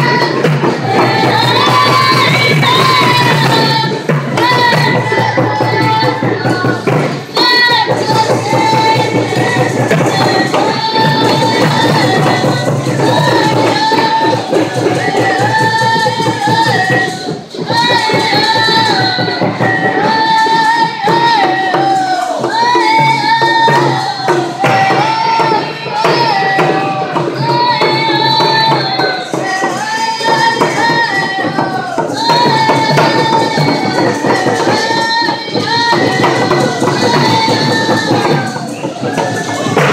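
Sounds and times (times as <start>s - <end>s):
frame drums beating: 0.0s - 39.9s
girls singing together: 0.0s - 39.9s.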